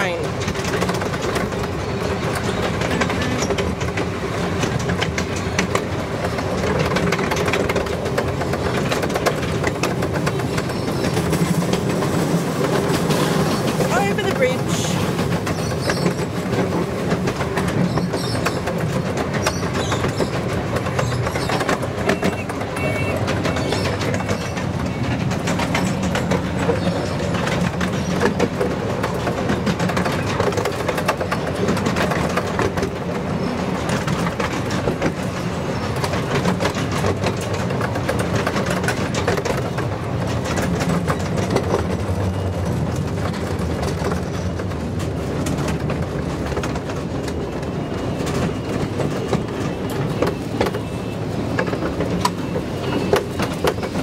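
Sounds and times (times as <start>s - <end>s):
clickety-clack over rails: 0.0s - 54.0s
miniature train wheels rumbling: 0.0s - 54.0s.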